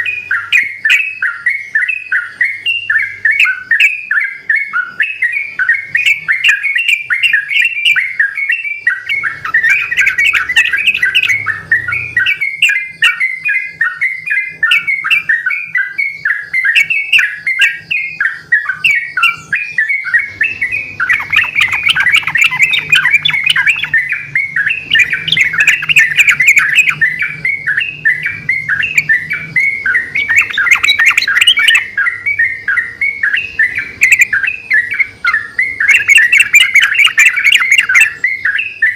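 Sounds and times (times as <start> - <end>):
birds singing bubbly phrases: 0.0 - 38.9.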